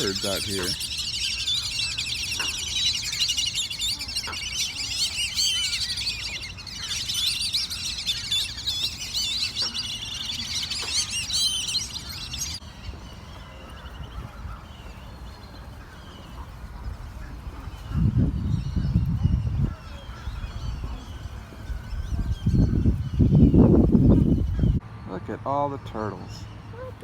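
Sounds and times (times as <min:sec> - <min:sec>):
small birds chirping and trilling: 0:00.0 - 0:27.0.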